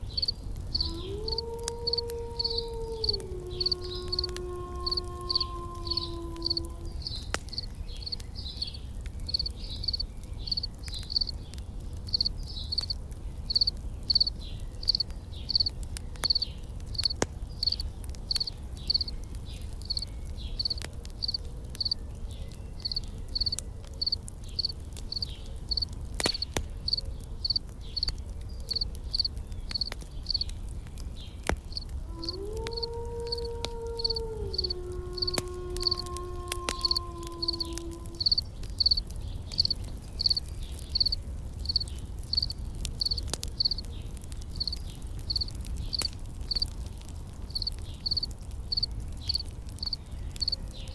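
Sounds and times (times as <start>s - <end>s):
campfire crackling: 0.0s - 50.9s
insects chirping: 0.1s - 11.4s, 12.1s - 19.1s, 19.8s - 22.0s, 22.8s - 28.1s, 28.7s - 30.4s, 31.7s - 43.8s, 44.6s - 46.7s, 47.5s - 50.6s.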